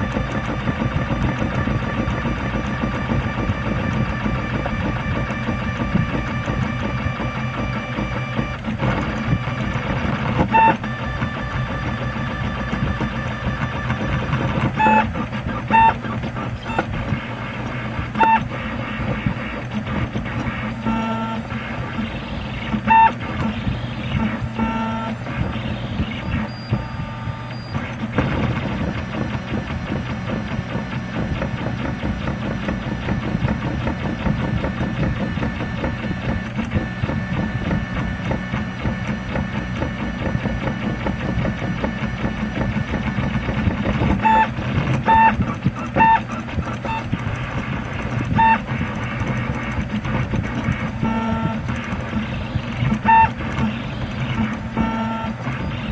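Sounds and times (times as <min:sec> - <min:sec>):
rapid motor chatter: 0:00.0 - 0:55.9
stepper motors buzzing and whining: 0:00.0 - 0:55.9.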